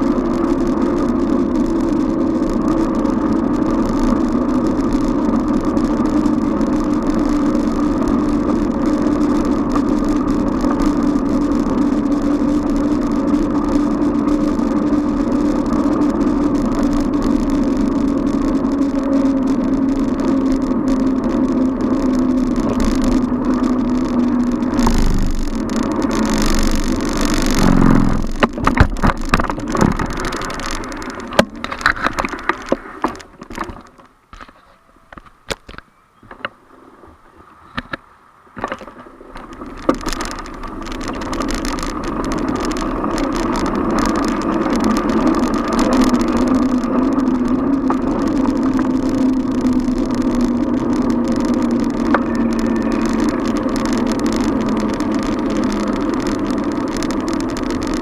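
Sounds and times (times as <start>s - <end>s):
bicycle road noise hum: 0.0s - 58.0s.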